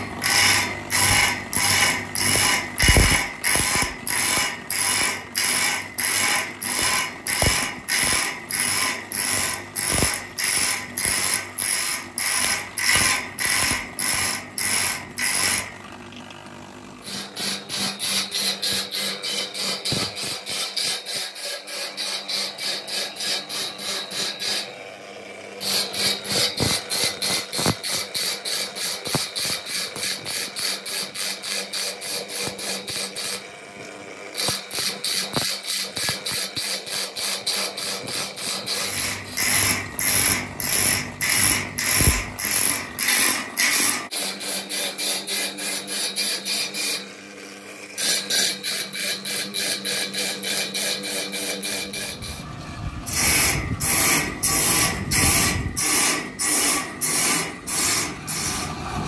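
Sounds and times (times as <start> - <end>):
grinding wheel rasping on blade: 0.0 - 59.0.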